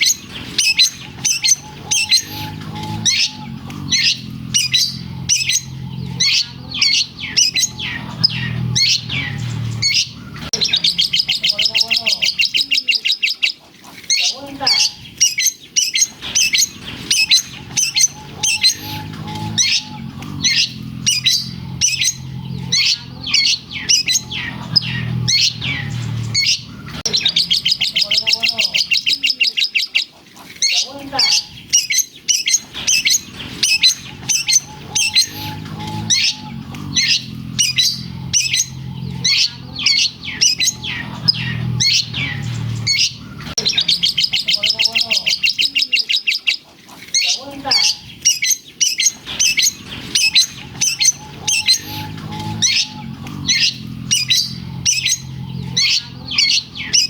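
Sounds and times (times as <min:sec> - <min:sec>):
bird singing chattering trills: 0:00.0 - 0:57.0.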